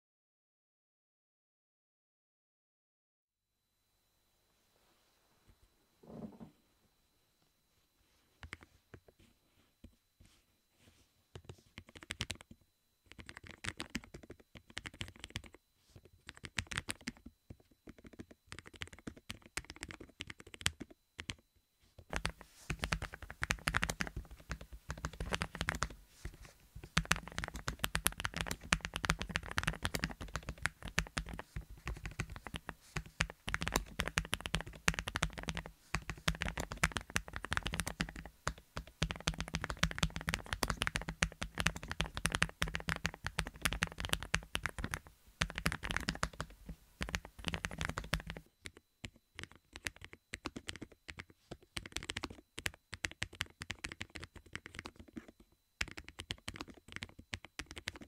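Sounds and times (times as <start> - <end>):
steady low hum: 3.6 - 58.0.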